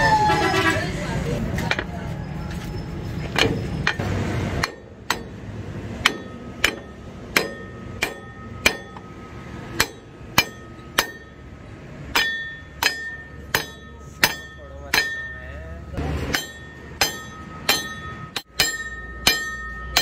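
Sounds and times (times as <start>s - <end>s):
hammer striking metal: 3.3s - 20.0s.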